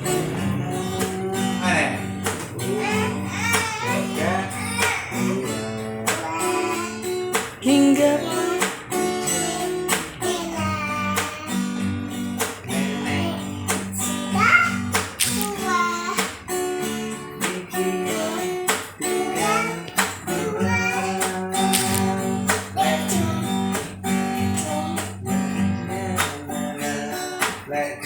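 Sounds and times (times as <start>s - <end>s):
child singing: 0.0s - 12.1s, 12.7s - 16.6s, 17.4s - 28.0s
acoustic guitar strumming: 0.0s - 28.0s.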